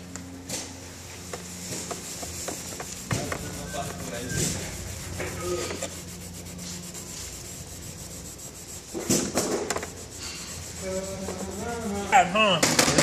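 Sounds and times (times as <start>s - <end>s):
cloth rubbing on metal chair leg: 0.4s - 12.5s.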